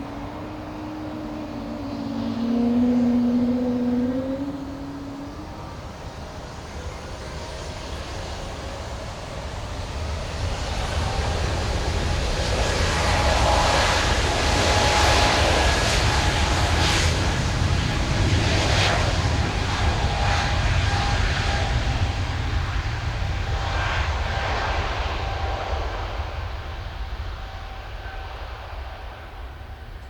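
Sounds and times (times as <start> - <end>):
jet engines roaring at takeoff: 0.0 - 30.0.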